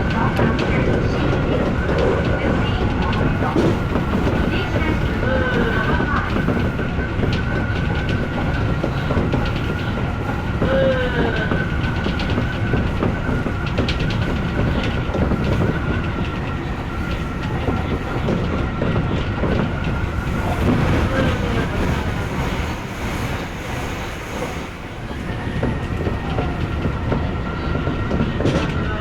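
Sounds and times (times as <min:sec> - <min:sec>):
electric train wheels on rail: 0:00.0 - 0:29.0.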